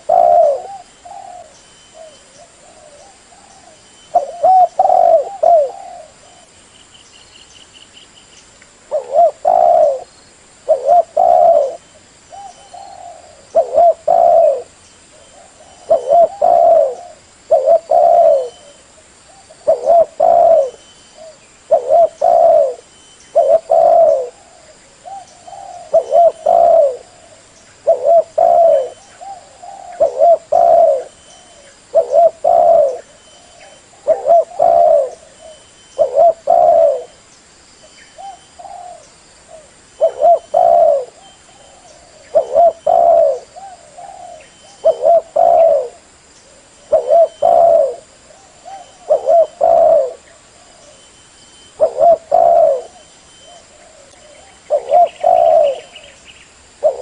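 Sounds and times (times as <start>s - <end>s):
dove cooing: 0.0s - 6.6s, 8.9s - 37.2s, 38.1s - 57.0s.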